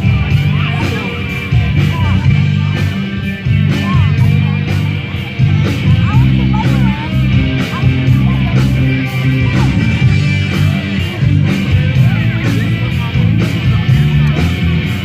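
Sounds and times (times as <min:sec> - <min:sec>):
bass: 0:00.0 - 0:15.0
drums: 0:00.0 - 0:15.0
guitar: 0:00.0 - 0:15.0.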